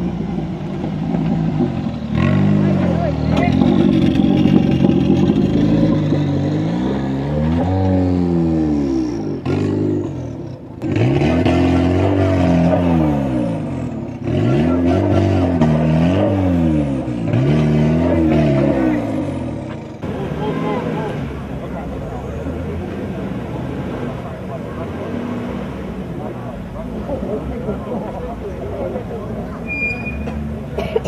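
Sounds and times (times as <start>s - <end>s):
off-road engine revving: 0.0s - 31.0s.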